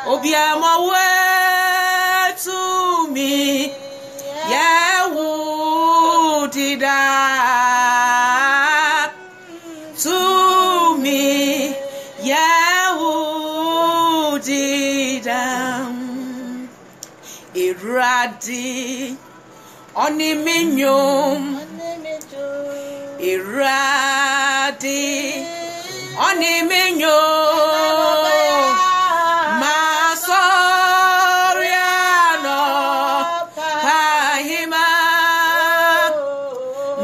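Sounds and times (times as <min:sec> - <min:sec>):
woman singing with vibrato: 0:00.0 - 0:37.0.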